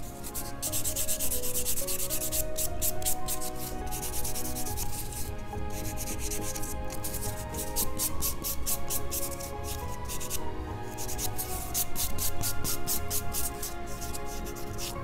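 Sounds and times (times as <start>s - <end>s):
sanding block rasping on nails: 0.0s - 10.4s, 11.0s - 15.0s.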